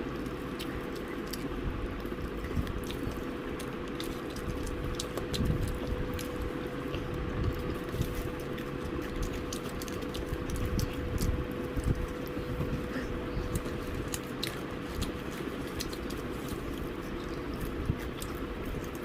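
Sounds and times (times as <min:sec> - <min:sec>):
chewing fried chicken: 0:00.0 - 0:19.0
faint steady hum: 0:00.0 - 0:19.0.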